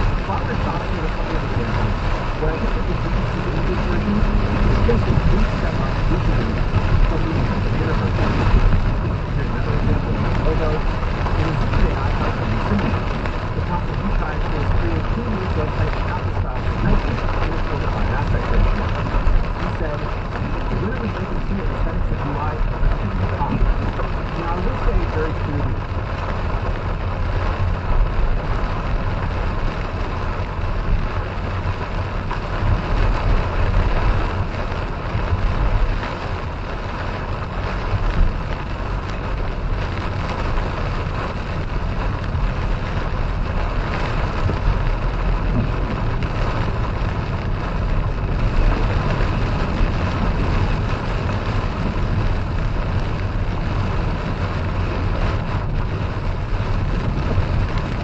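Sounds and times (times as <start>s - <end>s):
car engine and road noise: 0.0s - 58.0s
rain and wet tyres hiss: 0.0s - 58.0s.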